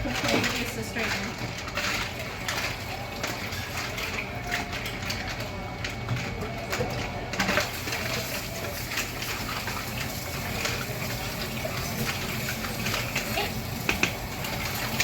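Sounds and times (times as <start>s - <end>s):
stirring clicks: 0.0s - 15.0s.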